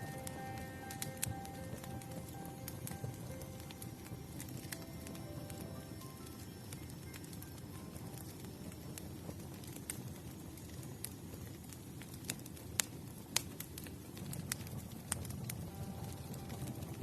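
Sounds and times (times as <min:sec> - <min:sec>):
campfire flames rumbling: 0:00.0 - 0:17.0
fire crackling pops: 0:00.0 - 0:17.0.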